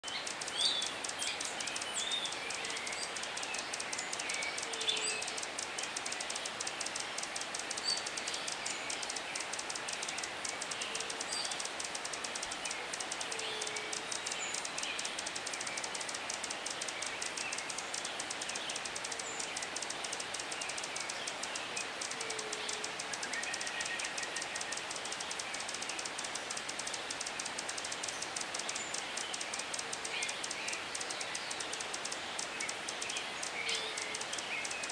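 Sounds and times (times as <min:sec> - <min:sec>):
birds chirping: 0:00.0 - 0:34.9
insects buzzing: 0:00.0 - 0:34.9.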